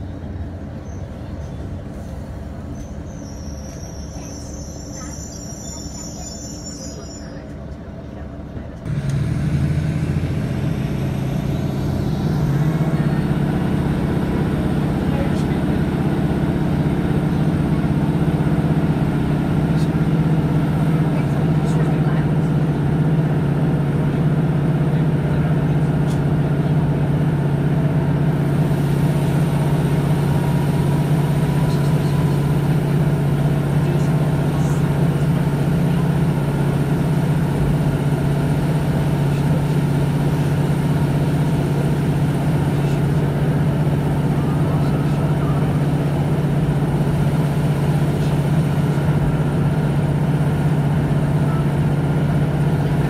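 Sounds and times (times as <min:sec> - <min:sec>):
diesel engine drone: 0:00.0 - 0:53.0
train running noise: 0:00.0 - 0:53.0.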